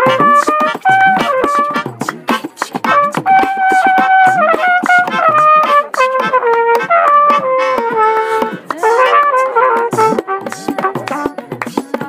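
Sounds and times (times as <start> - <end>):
trumpet melody: 0.0 - 11.4
hand clapping: 0.0 - 12.0.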